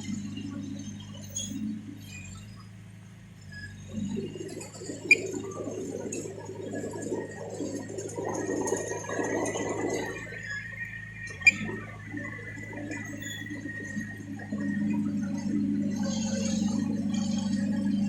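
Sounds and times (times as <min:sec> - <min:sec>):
diesel engine running: 0:00.0 - 0:18.0
rattle: 0:00.0 - 0:18.0.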